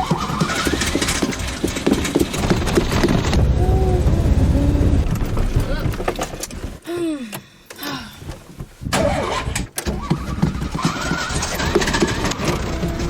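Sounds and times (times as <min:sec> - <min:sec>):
engine cranking on starter: 0:00.0 - 0:06.8, 0:08.9 - 0:13.0.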